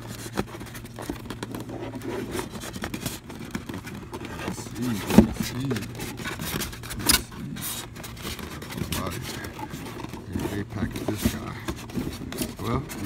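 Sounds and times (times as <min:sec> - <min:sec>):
styrofoam rubbing and scraping: 0:00.0 - 0:13.0.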